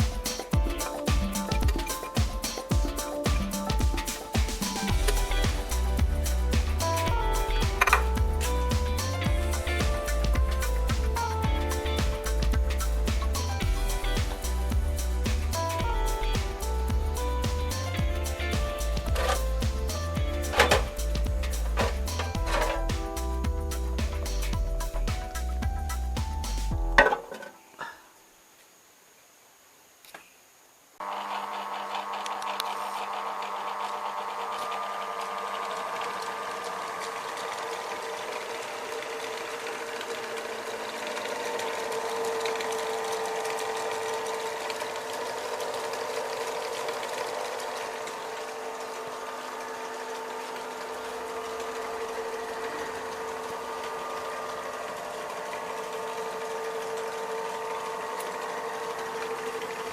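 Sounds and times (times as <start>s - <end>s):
generator running: 0.0s - 27.1s, 31.0s - 59.9s.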